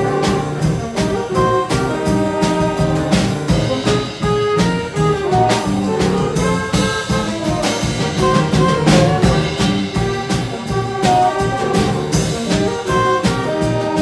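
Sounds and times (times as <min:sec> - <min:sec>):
drum kit steady beat: 0:00.0 - 0:14.0
saxophones and brass: 0:00.0 - 0:14.0.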